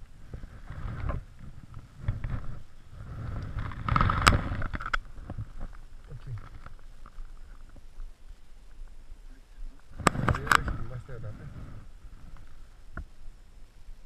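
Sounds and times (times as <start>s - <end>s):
microphone handling rumble: 0.0s - 13.3s.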